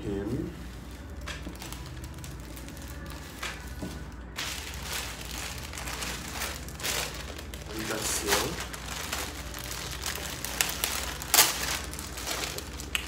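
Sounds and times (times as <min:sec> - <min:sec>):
plastic packaging crinkling: 0:00.1 - 0:13.0.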